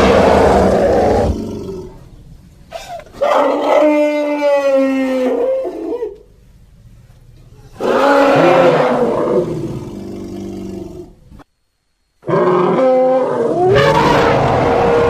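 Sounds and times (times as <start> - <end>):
elephant roaring and rumbling: 0.0 - 6.2, 7.6 - 11.2, 12.2 - 15.0.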